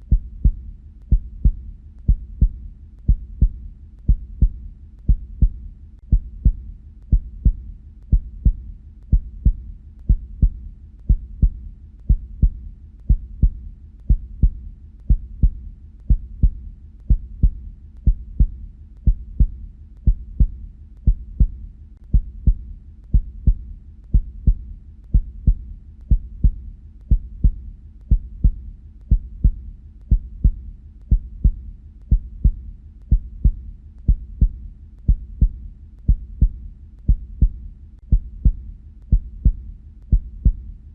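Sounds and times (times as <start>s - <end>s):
heartbeat lub-dub: 0.0s - 40.9s.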